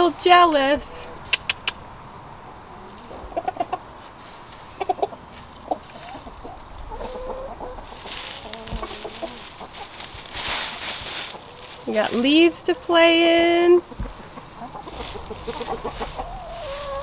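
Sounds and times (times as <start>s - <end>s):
chickens clucking: 0.0s - 17.0s
chickens scratching in dry leaves: 2.6s - 17.0s.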